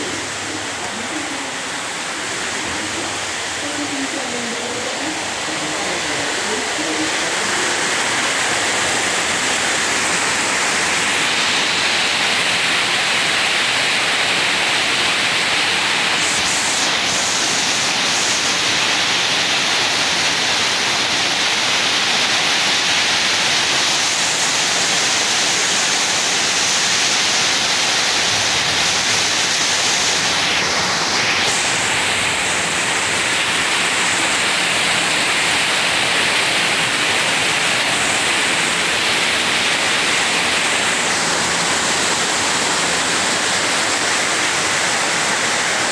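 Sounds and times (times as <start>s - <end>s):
torrential rain hissing: 0.0s - 45.9s.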